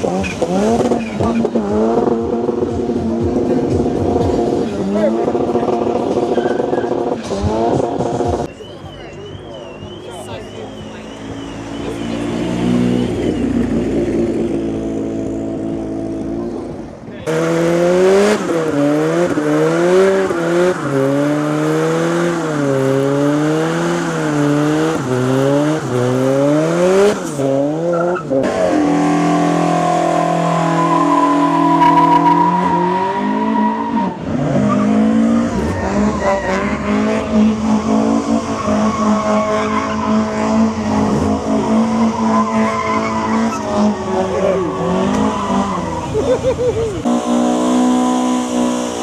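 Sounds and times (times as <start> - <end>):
car engine revving: 0.0 - 8.6, 9.2 - 49.0.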